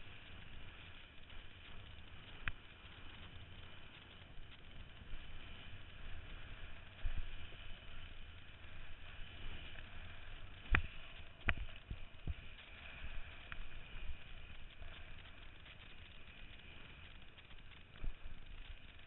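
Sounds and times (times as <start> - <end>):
water rushing under kiteboard: 0.0 - 19.0.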